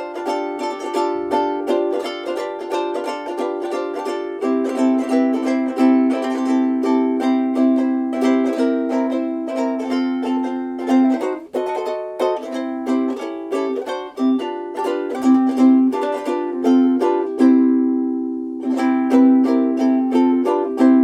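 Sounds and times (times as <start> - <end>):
ukulele plucked notes and chords: 0.0 - 21.0.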